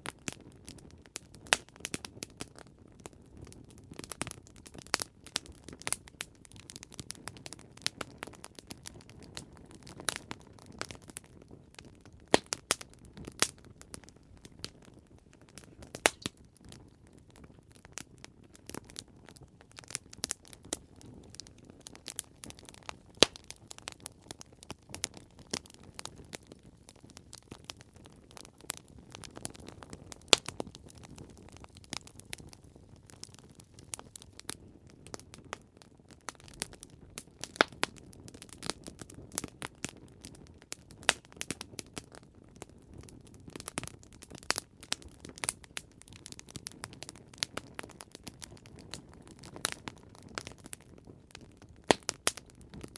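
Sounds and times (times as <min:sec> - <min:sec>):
campfire pops and snaps: 0:00.0 - 0:52.9
rush of burning fire: 0:00.0 - 0:52.9.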